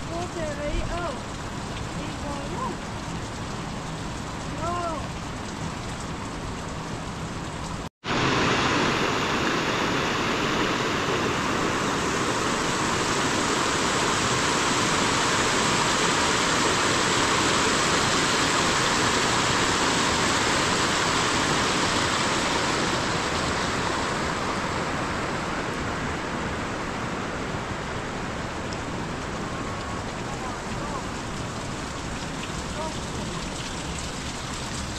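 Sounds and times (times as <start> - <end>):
water rushing over rock: 0.0 - 3.6, 4.2 - 5.4, 8.0 - 34.9
rain falling: 0.0 - 34.9.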